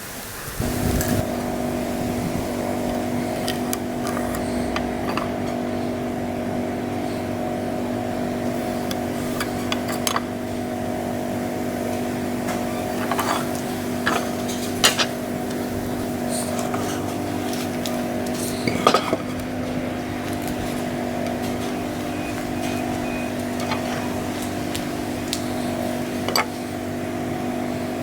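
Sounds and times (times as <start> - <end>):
steady motor hum: 0.5 - 28.0.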